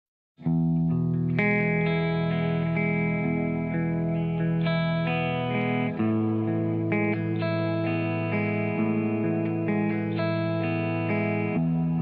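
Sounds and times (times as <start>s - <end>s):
effects-laden guitar chords: 0.4s - 12.0s.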